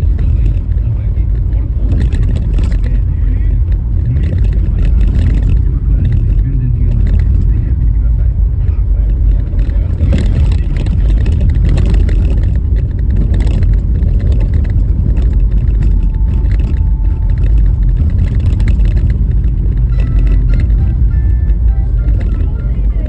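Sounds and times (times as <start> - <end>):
car rattles and knocks: 0.0 - 23.0
tyre and road noise: 0.0 - 23.0.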